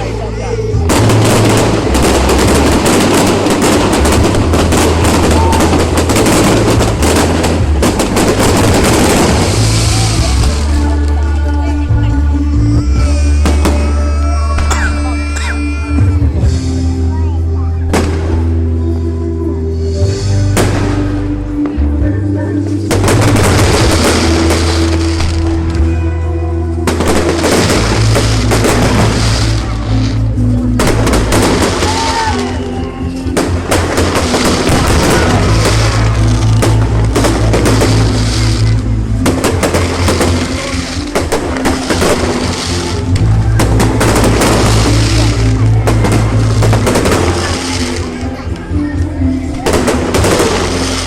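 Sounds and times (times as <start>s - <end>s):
fireworks bangs and crackles: 0.0s - 12.2s, 12.9s - 15.0s, 17.9s - 18.8s, 20.1s - 21.8s, 22.7s - 26.1s, 26.8s - 51.0s
music with deep tones: 0.0s - 51.0s.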